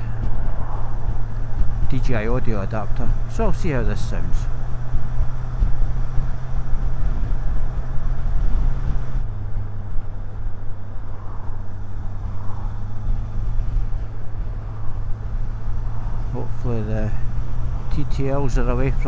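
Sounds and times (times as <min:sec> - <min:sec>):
motorcycle engine running: 0:00.0 - 0:19.0
wind rush: 0:00.0 - 0:19.0.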